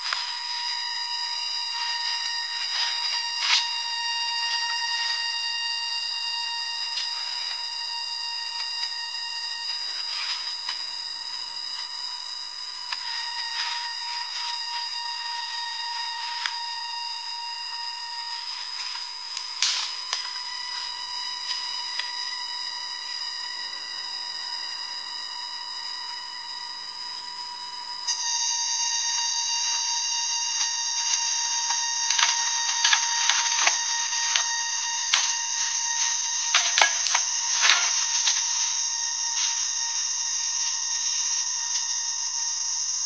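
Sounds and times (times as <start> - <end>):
cicadas droning: 0.0 - 43.0.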